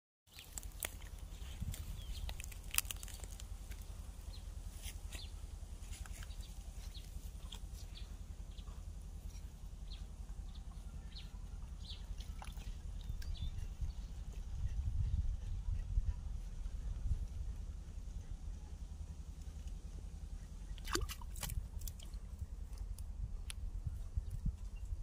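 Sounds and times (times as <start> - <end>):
steady low rumble: 0.4 - 25.0.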